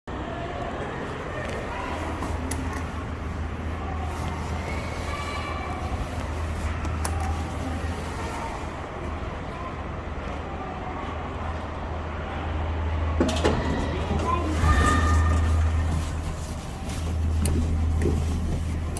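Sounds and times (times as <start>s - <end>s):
elevator machine hum: 0.1s - 18.9s.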